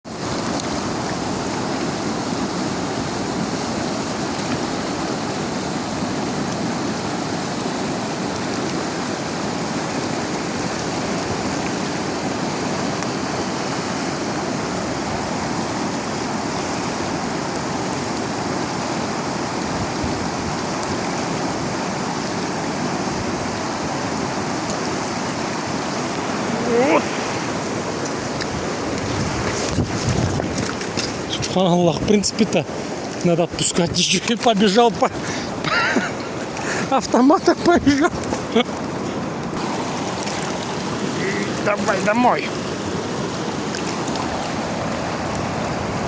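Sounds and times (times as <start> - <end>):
river rushing: 0.1 - 46.0.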